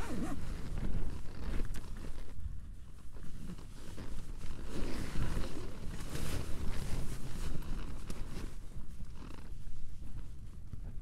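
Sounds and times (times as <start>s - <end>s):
tent fabric flapping: 0.0s - 11.0s.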